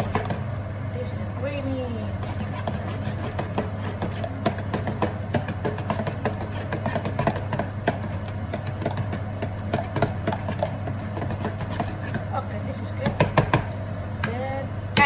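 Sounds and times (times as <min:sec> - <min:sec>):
utensil scraping a pan: 0:00.0 - 0:00.5, 0:01.6 - 0:13.7
steady low hum: 0:00.0 - 0:15.0.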